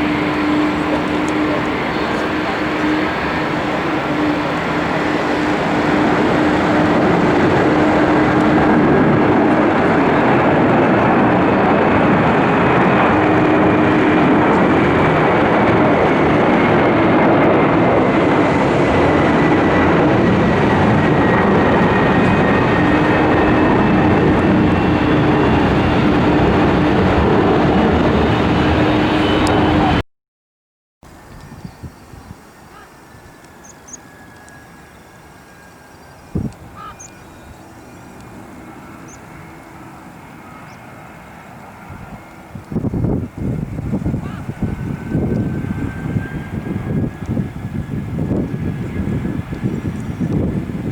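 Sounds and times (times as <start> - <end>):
jet airliner engines running: 0.0 - 30.0, 31.1 - 50.9.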